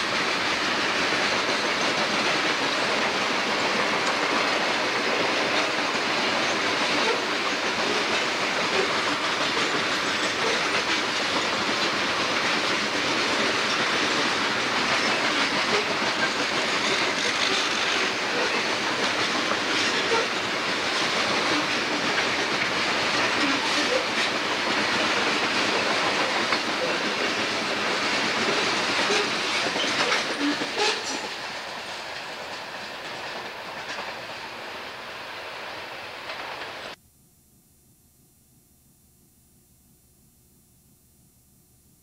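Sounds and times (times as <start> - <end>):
train wheels rushing on rail: 0.0 - 37.0.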